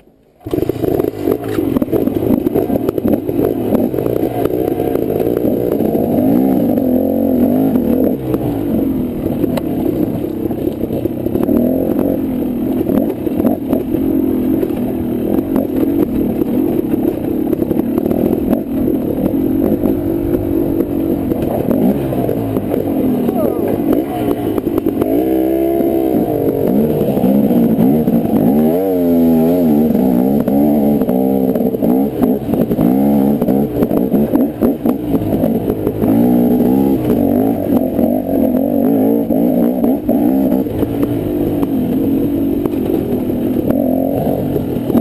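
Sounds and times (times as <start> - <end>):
dirt bike engine revving: 0.4 - 45.0.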